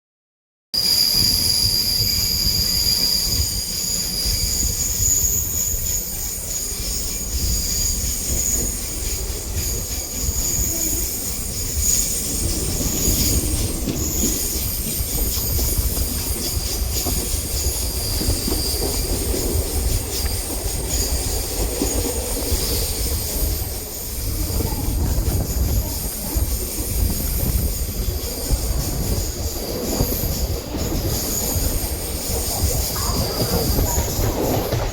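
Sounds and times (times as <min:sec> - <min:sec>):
train wheel squeal: 0:00.8 - 0:34.9
train low rumble: 0:00.9 - 0:34.9.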